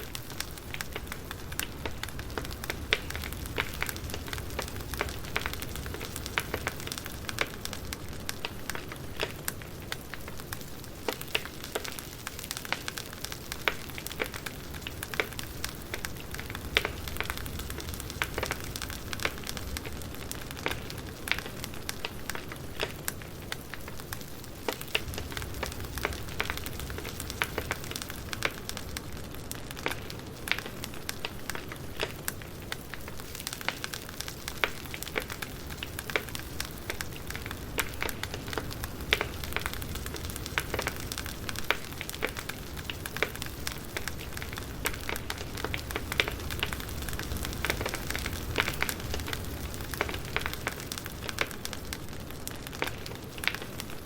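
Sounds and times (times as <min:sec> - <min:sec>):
firewood crackling and popping: 0:00.0 - 0:54.0.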